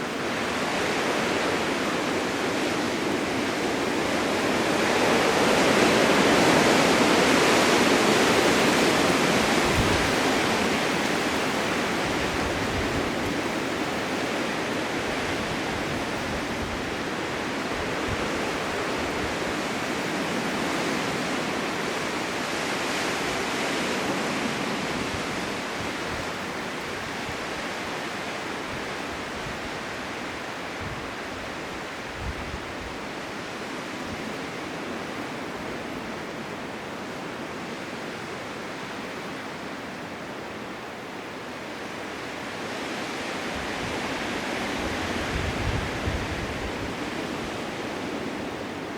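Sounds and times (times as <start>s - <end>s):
blizzard wind rushing in gusts: 0.0s - 48.9s
low wind buffets: 0.0s - 48.9s.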